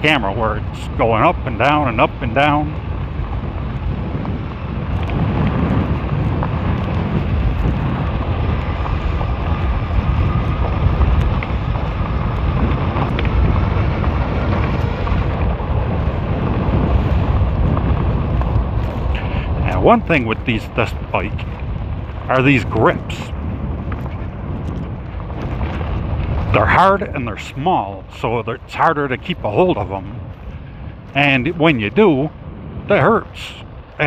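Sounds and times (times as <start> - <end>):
bike rumbling on rocky road: 0.0 - 34.0
wind buffeting microphone: 0.0 - 34.0.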